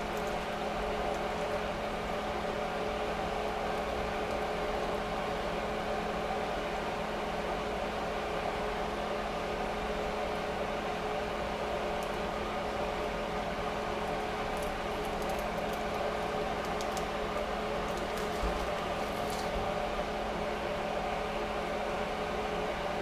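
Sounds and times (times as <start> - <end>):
appliance fan whirring: 0.0 - 23.0.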